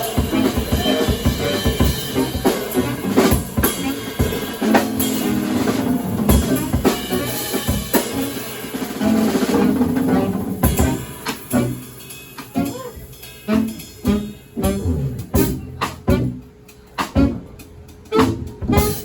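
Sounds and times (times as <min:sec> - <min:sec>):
drum kit solo: 0:00.0 - 0:19.0.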